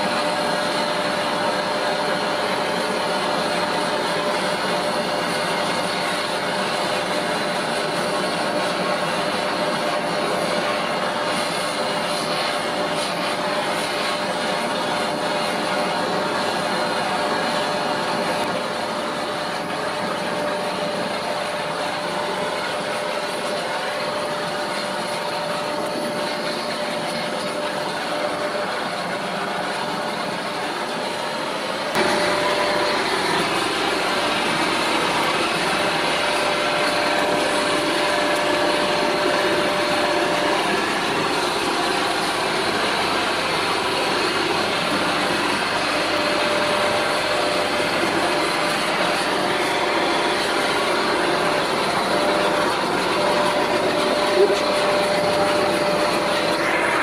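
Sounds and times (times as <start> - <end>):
lathe motor hum: 0.0 - 57.0.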